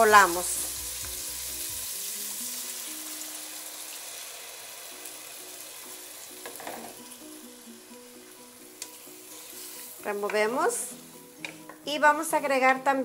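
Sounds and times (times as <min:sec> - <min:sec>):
vegetables sizzling in hot oil: 0:00.0 - 0:11.9
quiet background music: 0:00.0 - 0:13.0.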